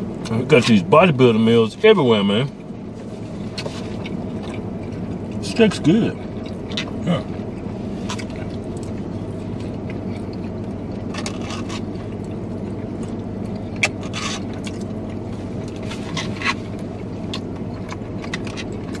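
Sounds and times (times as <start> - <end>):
low hum inside a car: 0.0 - 19.0.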